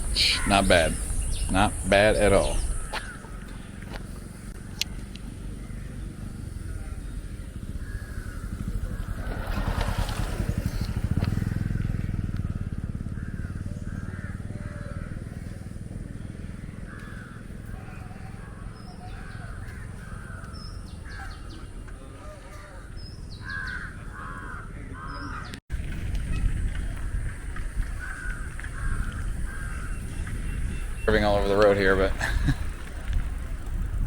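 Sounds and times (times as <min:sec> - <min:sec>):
motorcycle engine running: 0:00.0 - 0:21.9, 0:25.7 - 0:34.0
birds calling: 0:00.0 - 0:25.6, 0:26.3 - 0:33.8.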